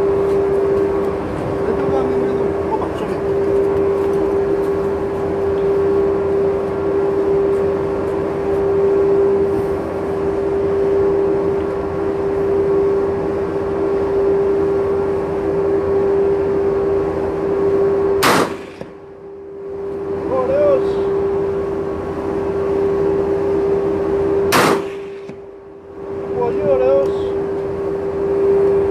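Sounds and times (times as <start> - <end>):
machine drone: 0.0 - 28.9.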